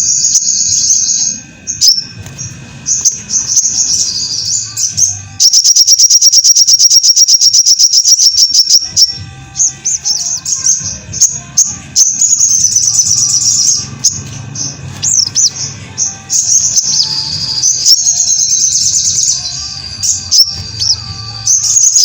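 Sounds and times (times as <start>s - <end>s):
bird chirps and trills: 0.0s - 22.0s.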